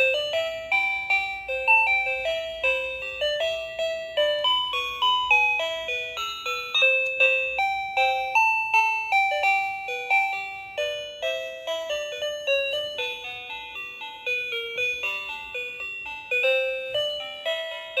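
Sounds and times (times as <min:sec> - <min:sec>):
toy phone electronic tune: 0:00.0 - 0:18.0.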